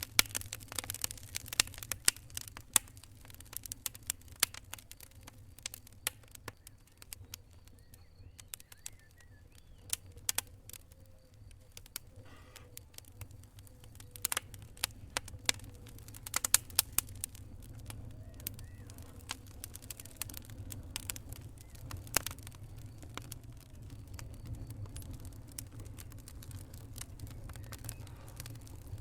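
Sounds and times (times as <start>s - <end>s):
low fire rumble: 0.0s - 29.0s
wood fire crackling and popping: 0.0s - 29.0s.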